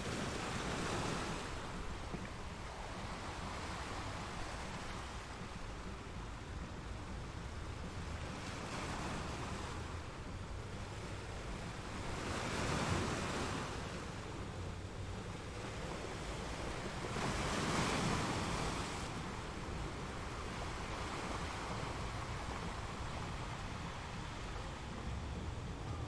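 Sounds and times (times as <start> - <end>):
ocean waves breaking: 0.0 - 26.0
wind rumble on microphone: 0.0 - 26.0.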